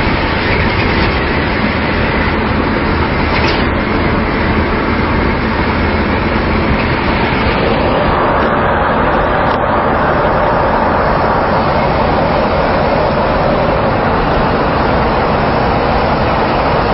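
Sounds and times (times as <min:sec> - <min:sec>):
traffic road noise: 0:00.0 - 0:16.9.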